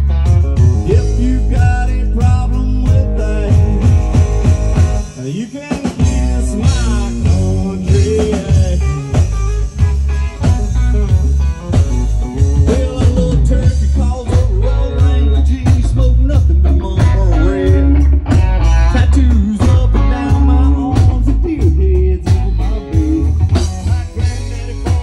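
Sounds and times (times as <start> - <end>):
bass guitar: 0.0 - 25.0
drum kit: 0.0 - 25.0
electric guitar: 0.0 - 25.0.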